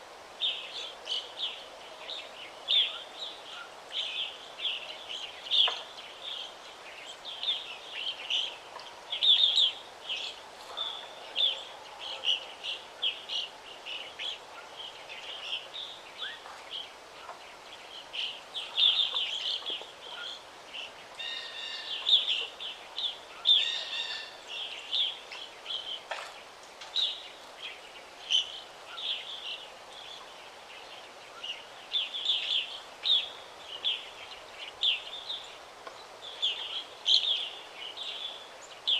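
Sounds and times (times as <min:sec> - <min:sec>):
faint background hiss: 0:00.0 - 0:38.9
forest birds chirping: 0:00.4 - 0:38.9.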